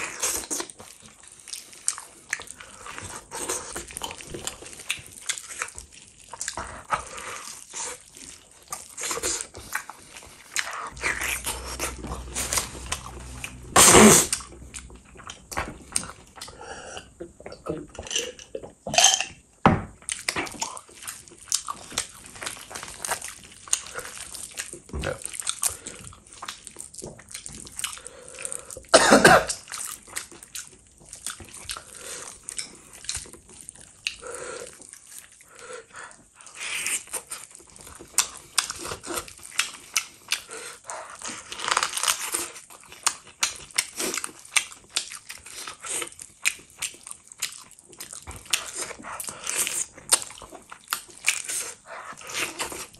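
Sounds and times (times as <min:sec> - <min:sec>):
chewing and smacking: 0:00.0 - 0:17.6, 0:20.0 - 0:28.9, 0:29.5 - 0:52.9.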